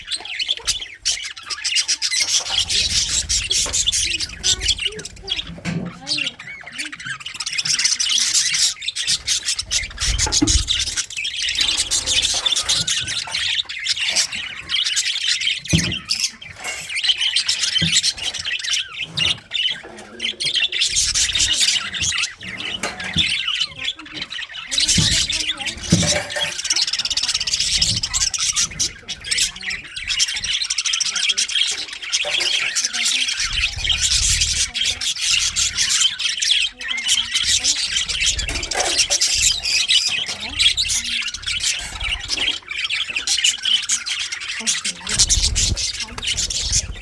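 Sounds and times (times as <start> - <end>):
budgerigars chattering: 0.0 - 47.0.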